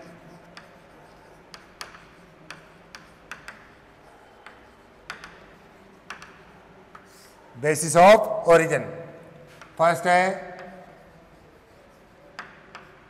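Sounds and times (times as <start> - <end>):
chalk on chalkboard: 0.0 - 7.4, 9.5 - 13.0.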